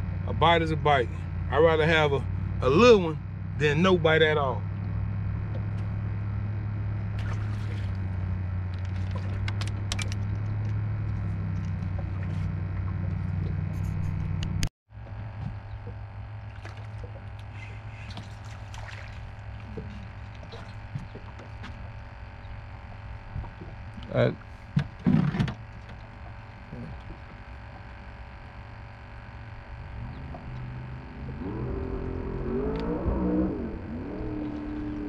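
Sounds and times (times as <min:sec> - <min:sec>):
electric motor humming: 0:00.6 - 0:35.0.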